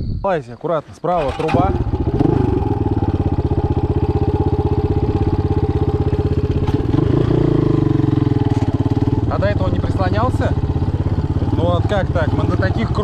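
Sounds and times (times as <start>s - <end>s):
motorcycle engine idling: 1.2s - 13.0s.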